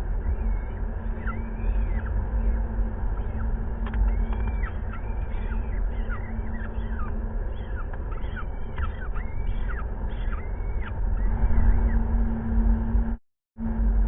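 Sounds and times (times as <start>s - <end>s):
low rumble: 0.0s - 14.0s
falcon chicks begging chirps: 0.2s - 12.0s.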